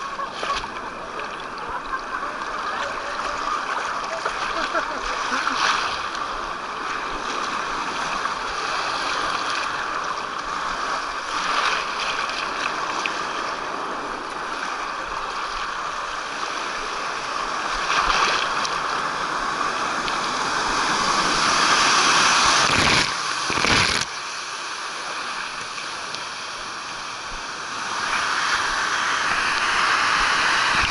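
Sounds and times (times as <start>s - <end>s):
water rushing down water slide: 0.0s - 14.1s, 14.8s - 30.9s.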